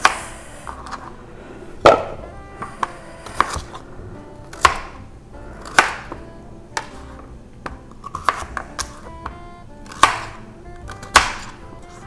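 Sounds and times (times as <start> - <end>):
knife chopping on cutting board: 0.0 - 1.1, 1.8 - 3.8, 4.4 - 5.0, 5.6 - 12.0.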